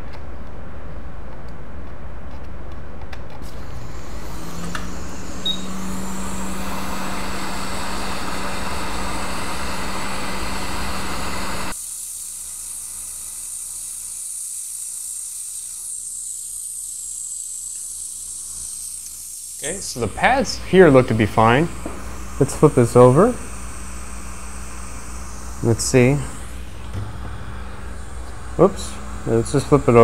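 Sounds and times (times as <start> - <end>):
hot air station blowing: 3.4 - 30.0.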